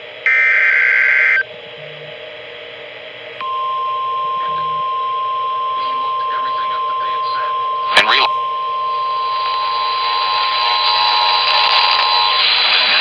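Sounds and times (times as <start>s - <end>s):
steady warning alarm tone: 0.0s - 12.8s.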